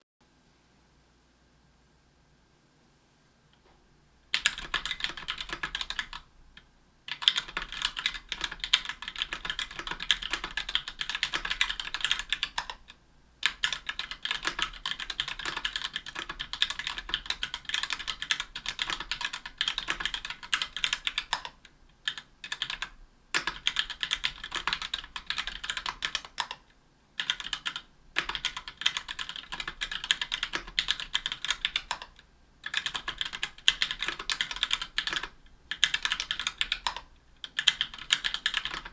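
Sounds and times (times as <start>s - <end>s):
mechanical keyboard typing: 4.3s - 6.3s, 7.1s - 26.6s, 27.2s - 38.9s.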